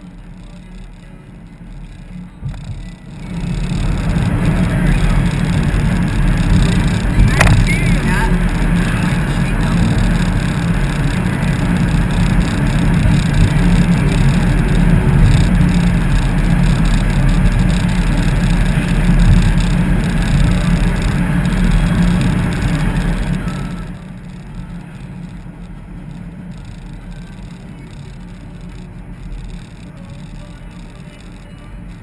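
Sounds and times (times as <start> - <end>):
car engine running: 0.0 - 32.0
road and wind noise: 0.0 - 32.0.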